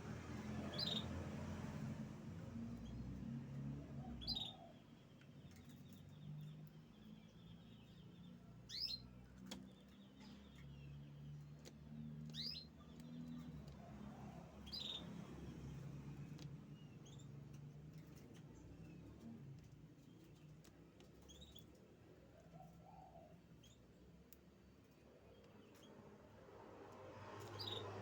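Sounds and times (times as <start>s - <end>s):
canary chirping: 0.3s - 26.4s, 27.4s - 28.0s.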